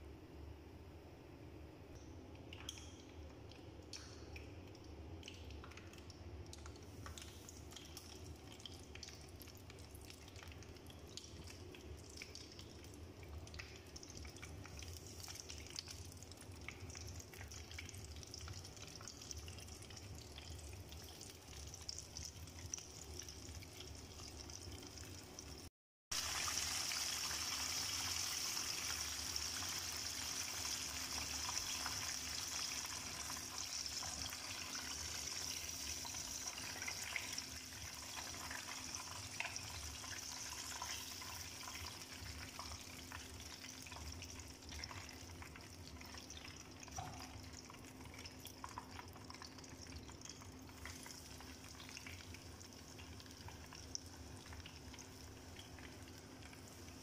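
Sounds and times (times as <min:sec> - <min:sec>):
chicken deep-frying in oil: 0:02.2 - 0:57.0.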